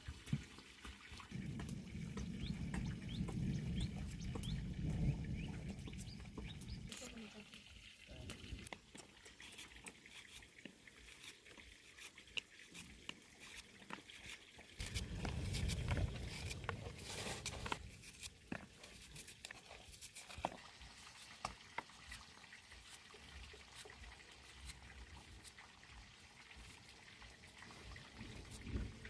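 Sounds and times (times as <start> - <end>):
rain dripping and pattering: 0.0 - 29.0.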